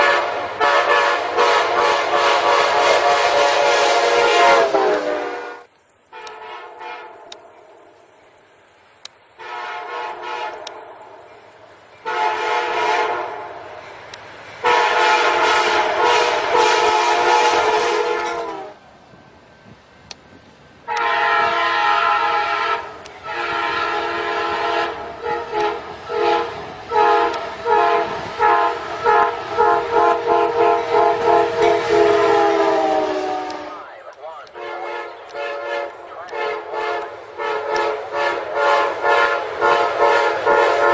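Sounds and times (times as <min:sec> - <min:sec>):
locomotive air horn blasts: 0:00.0 - 0:07.8, 0:09.4 - 0:11.3, 0:12.0 - 0:13.8, 0:14.6 - 0:18.8, 0:20.8 - 0:40.9.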